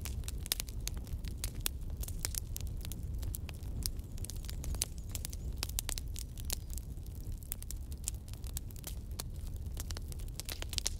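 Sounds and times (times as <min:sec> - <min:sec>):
bonfire crackling and popping: 0:00.0 - 0:10.9
low fire rumble: 0:00.0 - 0:10.9.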